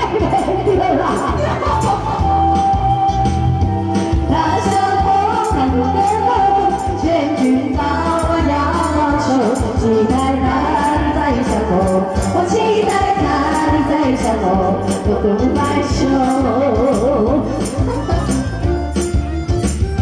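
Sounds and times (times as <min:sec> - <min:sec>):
woman singing into microphone: 0:00.0 - 0:18.2
backing music with steady beat: 0:00.0 - 0:20.0.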